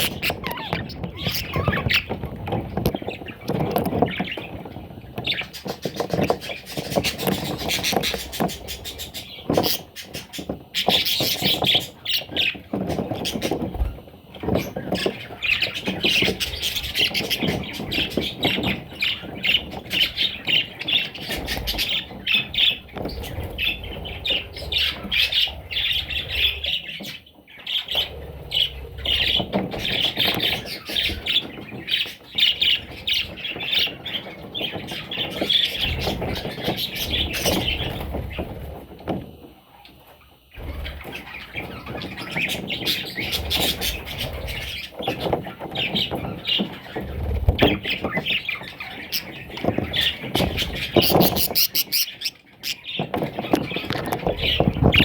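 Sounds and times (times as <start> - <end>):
bird chicks squawking and chirping: 0.0 - 55.0.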